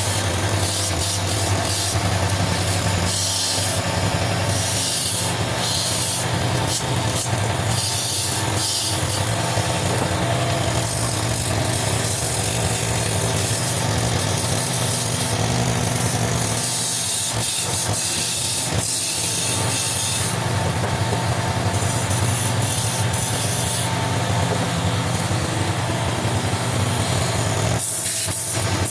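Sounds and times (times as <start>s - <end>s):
tool scraping spinning wood: 0.0s - 28.9s
wood lathe motor hum: 0.0s - 28.9s.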